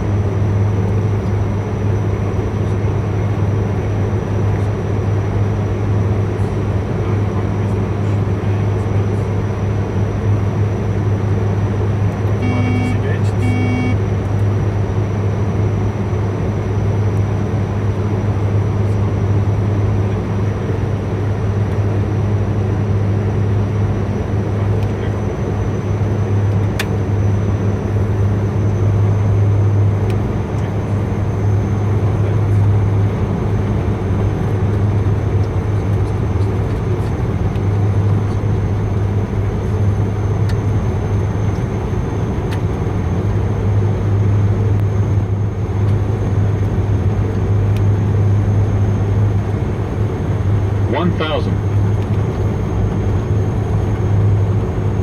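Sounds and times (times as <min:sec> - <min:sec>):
engine and airflow rush: 0:00.0 - 0:55.0
propeller drone: 0:00.0 - 0:55.0.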